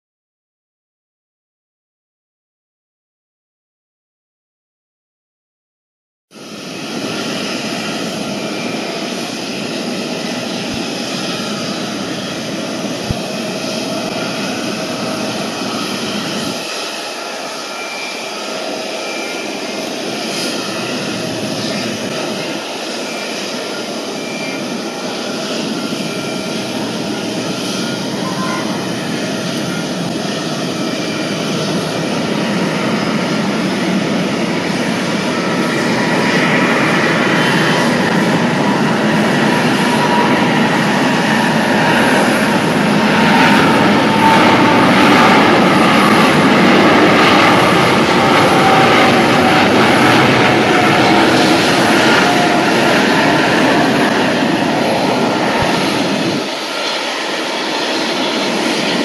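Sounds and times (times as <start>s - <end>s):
jet engines rushing and whining: 6.3s - 59.0s.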